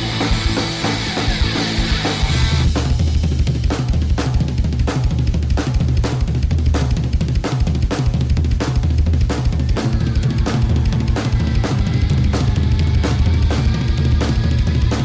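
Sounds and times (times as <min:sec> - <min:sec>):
heavy bass: 0:00.0 - 0:15.0
hip-hop drum beat: 0:00.0 - 0:15.0.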